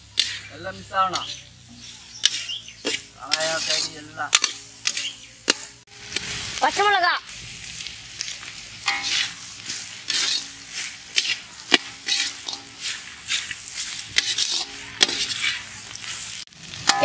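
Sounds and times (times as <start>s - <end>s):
ladle scraping noodles in pan: 0.0s - 6.6s, 7.6s - 17.0s
food sizzling in hot oil: 0.0s - 17.0s.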